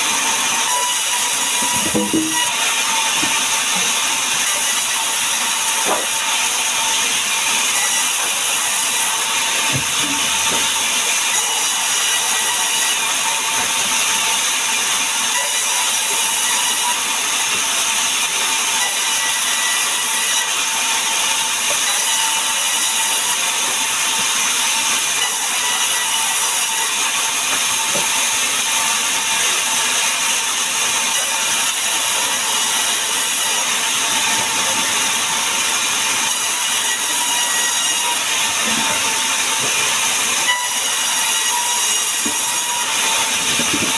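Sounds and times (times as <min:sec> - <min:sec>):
band saw cutting logs: 0:00.0 - 0:43.9.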